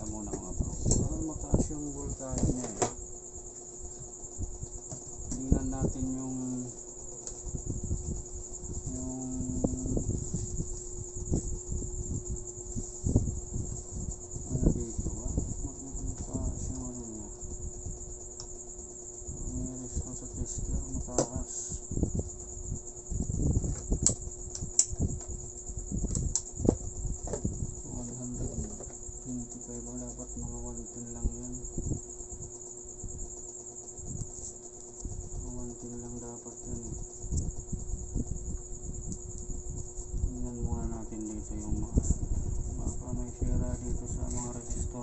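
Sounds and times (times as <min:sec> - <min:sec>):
high-pitched buzzing chirr: 0:00.0 - 0:45.0.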